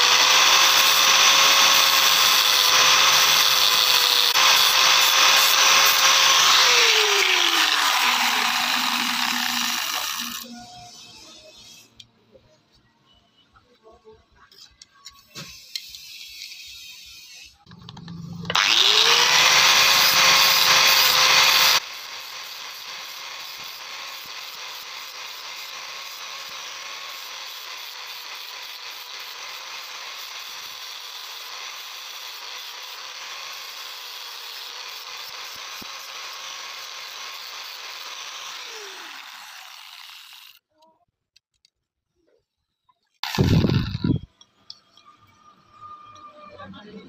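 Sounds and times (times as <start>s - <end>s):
power tool motor whirring: 0.0s - 12.1s, 15.2s - 40.7s, 43.2s - 44.3s.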